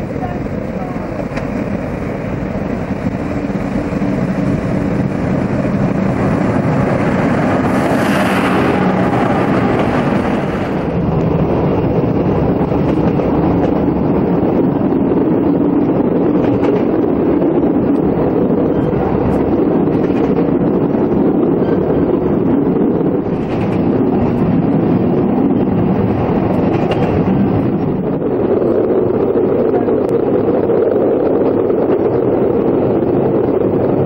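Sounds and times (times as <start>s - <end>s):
diesel locomotive engine running: 0.0s - 34.0s
train running noise inside carriage: 0.0s - 34.0s.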